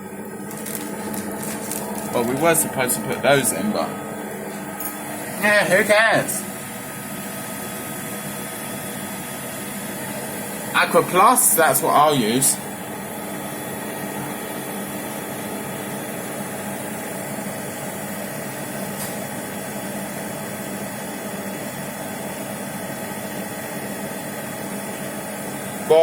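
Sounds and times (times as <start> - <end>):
washing machine running: 0.0 - 26.0.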